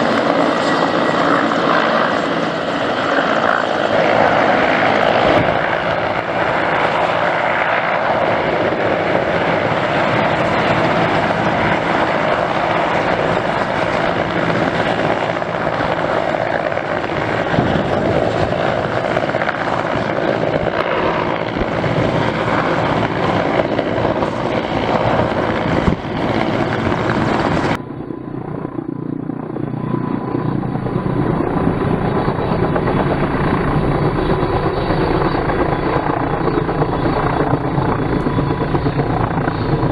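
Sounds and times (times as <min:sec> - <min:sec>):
helicopter engines whining: 0:00.0 - 0:39.9
helicopter rotor beating: 0:00.0 - 0:39.9.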